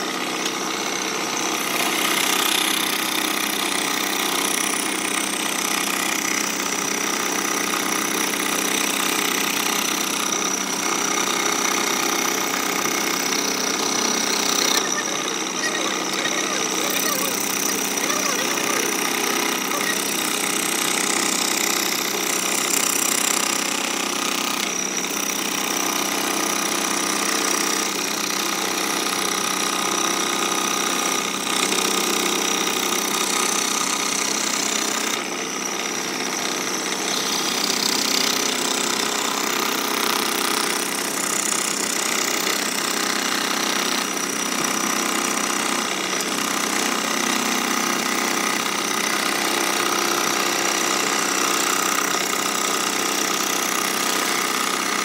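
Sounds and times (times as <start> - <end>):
scroll saw cutting wood: 0.0 - 55.0.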